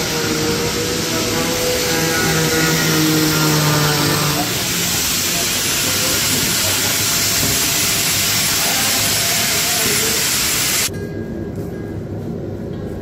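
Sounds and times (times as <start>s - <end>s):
power tool rushing noise: 0.0s - 10.9s.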